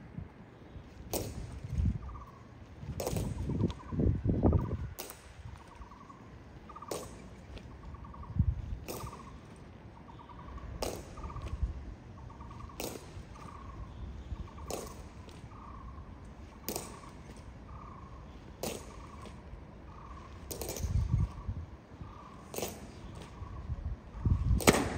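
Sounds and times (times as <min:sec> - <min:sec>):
bird trilled call: 0:02.0 - 0:24.6.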